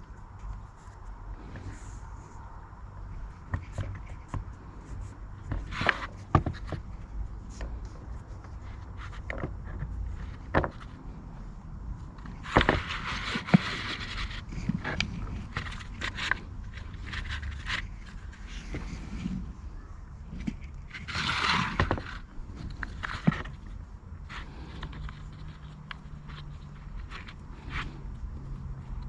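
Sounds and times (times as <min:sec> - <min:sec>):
scraping rustle: 0:00.0 - 0:29.0.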